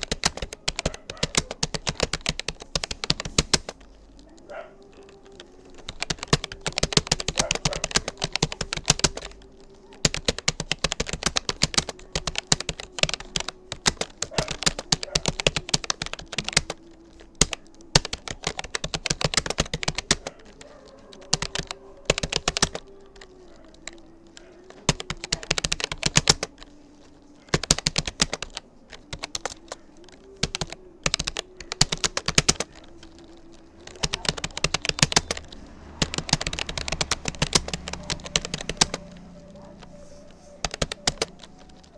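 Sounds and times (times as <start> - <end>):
keyboard keystroke clicks: 0.0 - 41.9.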